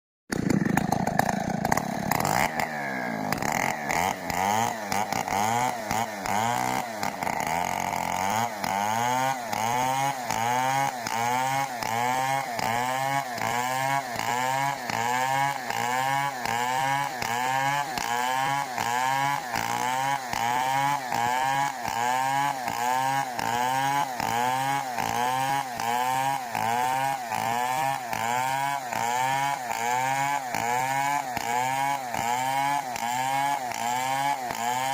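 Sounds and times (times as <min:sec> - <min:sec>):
chainsaw running: 0:00.3 - 0:34.9.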